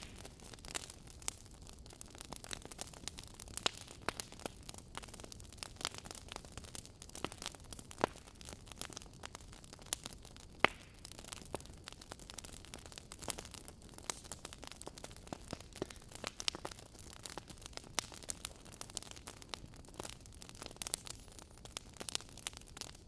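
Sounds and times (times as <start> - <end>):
faint hiss of fire: 0.0 - 23.0
wood logs crackling in fireplace: 0.0 - 23.0.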